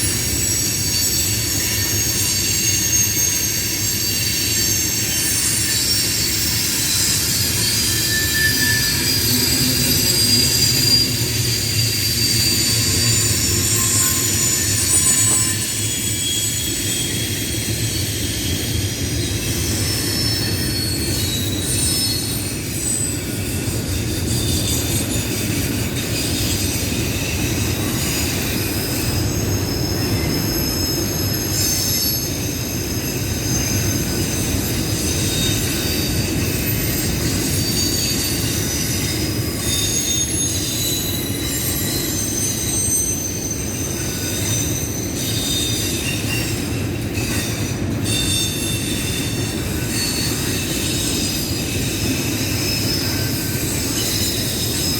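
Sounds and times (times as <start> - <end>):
train rumbling on track: 0.0 - 54.9
wheels squealing on rails: 0.0 - 54.9.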